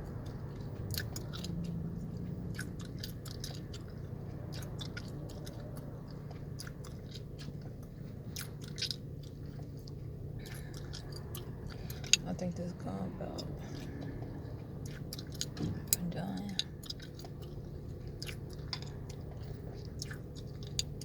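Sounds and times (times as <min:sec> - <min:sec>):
low car cabin hum: 0:00.0 - 0:21.0
gum chewing smacks and clicks: 0:00.1 - 0:12.3, 0:13.4 - 0:21.0.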